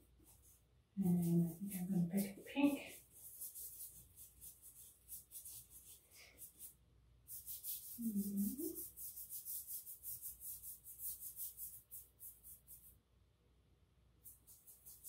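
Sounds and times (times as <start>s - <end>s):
paintbrush scrubbing on paper: 0.0s - 13.0s, 14.2s - 15.0s.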